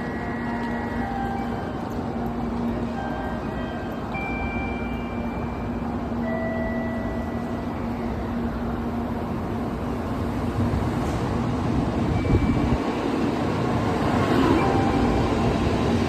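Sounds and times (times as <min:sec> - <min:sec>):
high-speed train rumble: 0:00.0 - 0:16.0.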